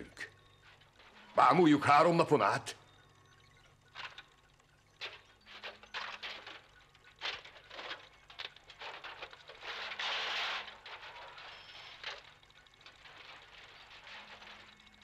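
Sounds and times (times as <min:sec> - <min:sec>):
electrical crackling and clicking: 0:00.0 - 0:15.0.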